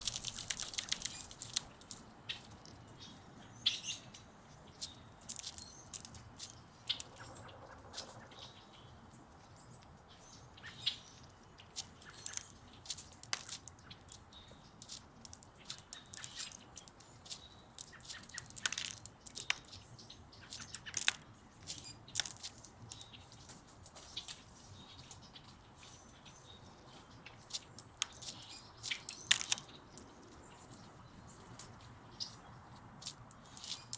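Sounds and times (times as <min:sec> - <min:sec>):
bird beak crunching leaves: 0:00.0 - 0:02.7, 0:04.6 - 0:08.5, 0:11.2 - 0:33.9
soft bird chirps: 0:00.1 - 0:33.9.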